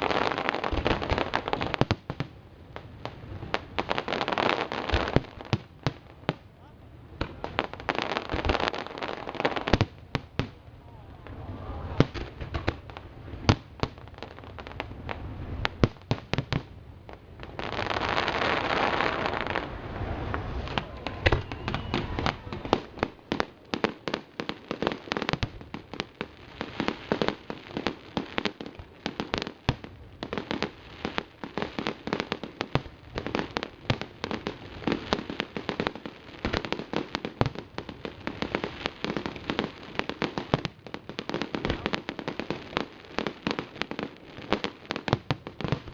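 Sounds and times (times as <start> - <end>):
firework hissing crackle: 0.0 - 10.5, 11.2 - 45.9.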